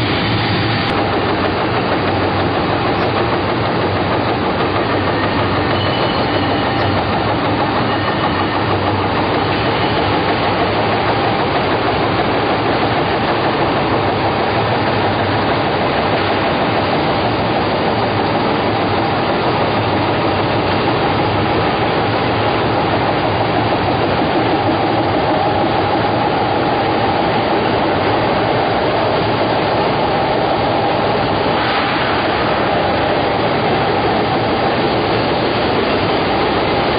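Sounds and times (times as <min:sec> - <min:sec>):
production machine running: 0:00.0 - 0:36.9.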